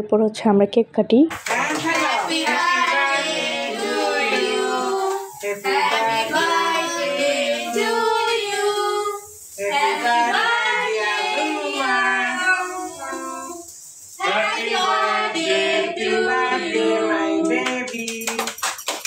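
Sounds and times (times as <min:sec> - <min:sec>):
women and girls singing: 0:01.5 - 0:18.0.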